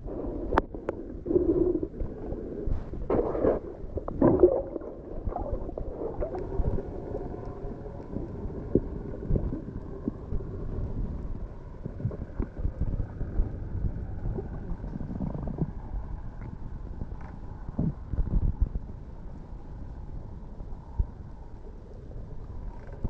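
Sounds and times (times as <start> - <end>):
muffled water gurgling and sloshing: 0.0 - 23.0.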